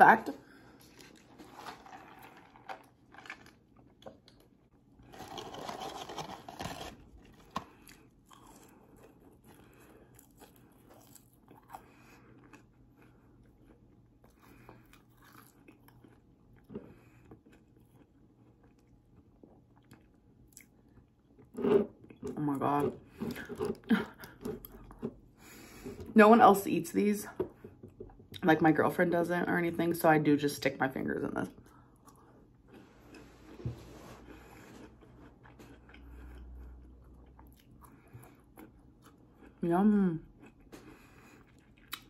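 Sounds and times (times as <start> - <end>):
person chewing food: 0.5 - 26.1, 31.6 - 39.6, 40.2 - 42.0.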